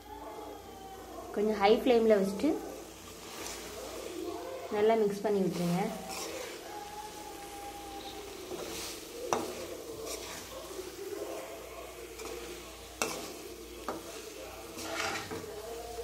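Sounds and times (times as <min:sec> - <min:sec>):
prawns sizzling in a pan: 0:00.0 - 0:16.0
steel spoon stirring and scraping: 0:02.4 - 0:16.0.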